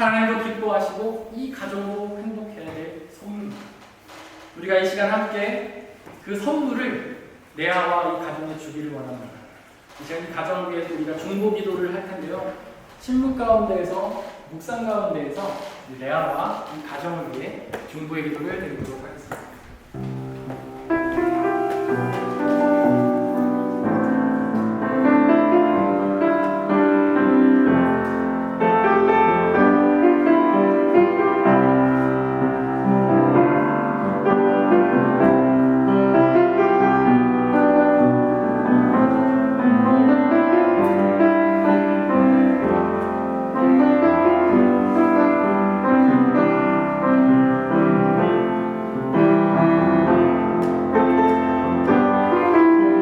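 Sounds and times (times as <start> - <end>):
piano playing prayer music: 0.0 - 3.8, 10.5 - 53.0.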